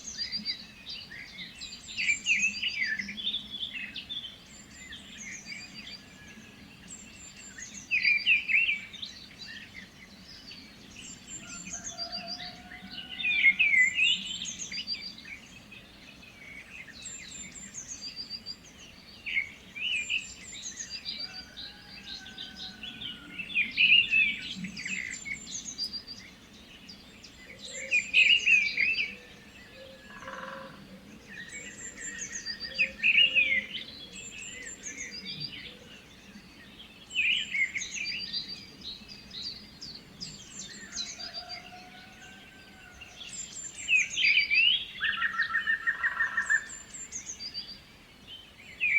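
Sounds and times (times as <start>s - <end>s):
birds singing and chirping: 0.0s - 48.9s.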